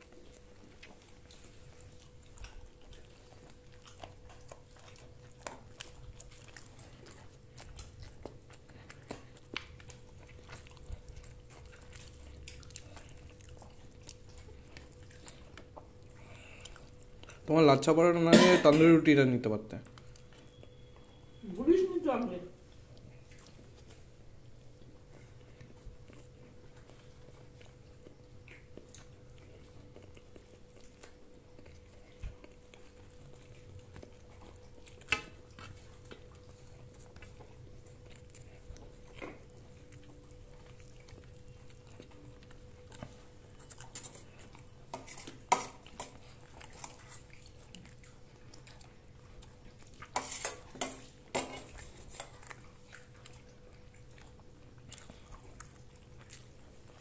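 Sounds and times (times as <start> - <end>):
faint steady hum: 0.0 - 57.0
quiet chewing: 0.0 - 57.0.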